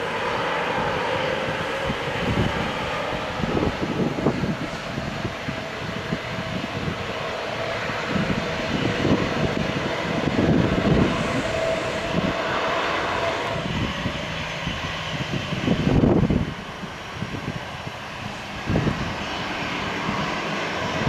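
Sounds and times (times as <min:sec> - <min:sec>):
continuous rushing noise: 0:00.0 - 0:21.0
jet engine whine: 0:00.0 - 0:21.0.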